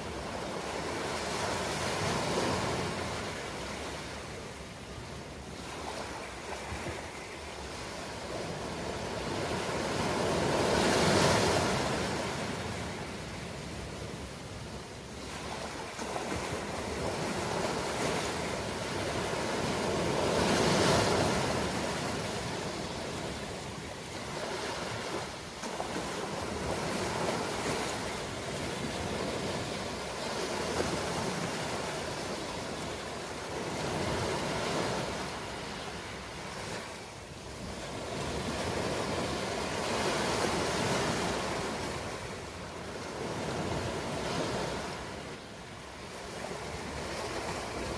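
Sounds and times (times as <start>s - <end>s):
waves breaking and washing ashore: 0.0s - 47.9s.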